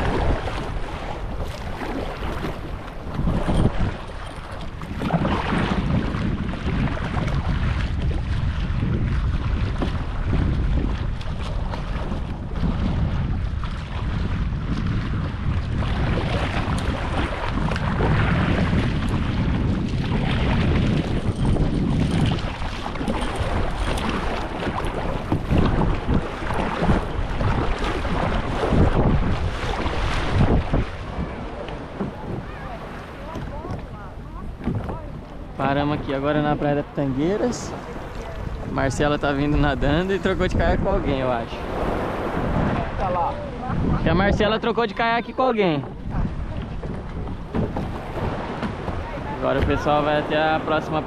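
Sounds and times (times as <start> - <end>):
water splashing around kayak: 0.0 - 51.0
wind rumbling on microphone: 0.0 - 51.0.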